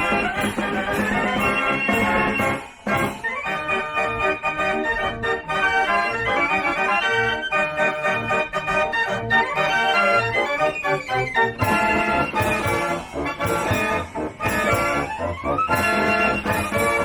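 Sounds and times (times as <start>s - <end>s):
fair organ playing: 0.0s - 17.0s.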